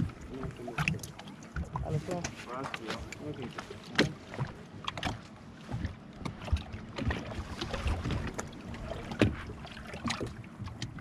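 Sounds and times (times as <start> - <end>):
water lapping against hull: 0.0 - 11.0.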